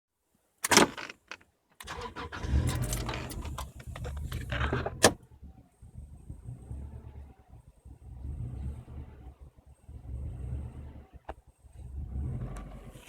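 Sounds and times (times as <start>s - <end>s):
car engine starting and idling roughly: 1.8s - 13.0s.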